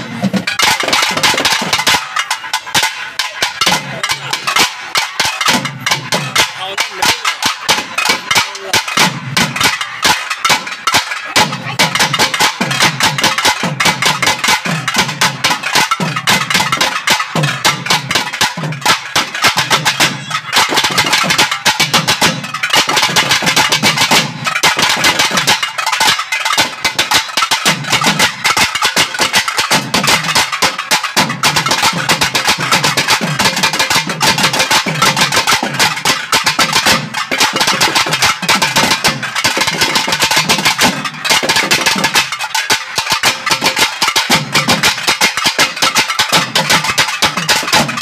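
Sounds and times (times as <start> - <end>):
fast sharp drum strokes: 0.0 - 48.0.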